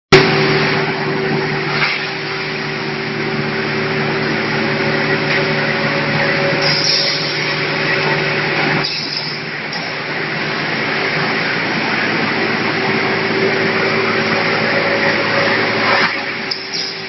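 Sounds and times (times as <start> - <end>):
machine hum with tones: 0.1 - 17.0.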